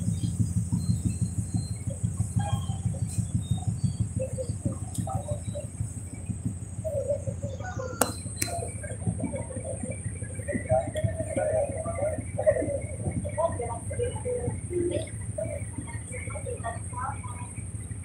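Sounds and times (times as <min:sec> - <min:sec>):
low ferry rumble: 0:00.0 - 0:18.0.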